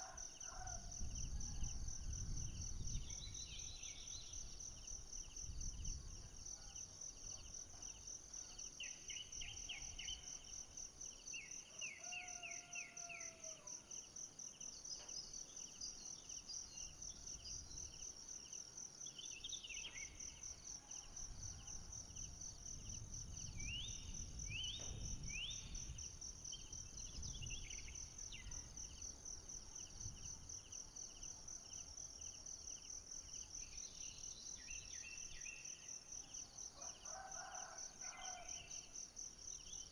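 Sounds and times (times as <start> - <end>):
lower pulsing insect chorus: 0.0 - 39.9.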